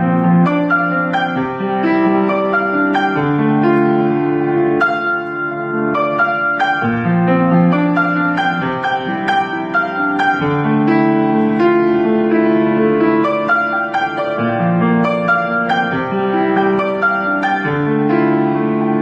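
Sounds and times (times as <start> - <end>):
instrumental piano music: 0.0 - 19.0.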